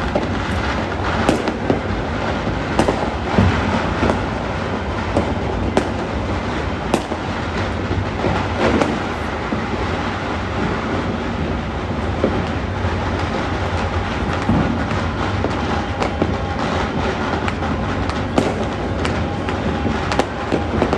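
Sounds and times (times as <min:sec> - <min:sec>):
distant firecrackers and fireworks: 0:00.0 - 0:20.9.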